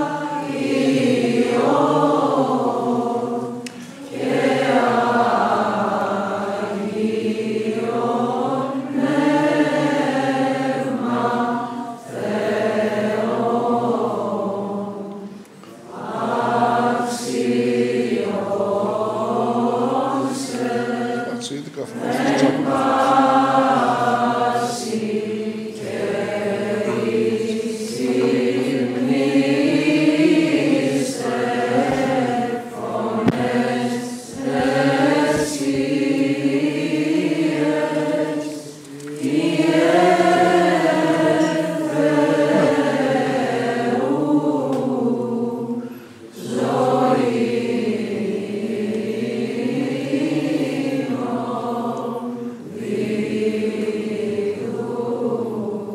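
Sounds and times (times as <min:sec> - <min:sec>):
voices chanting a slow hymn: 0:00.0 - 0:55.9.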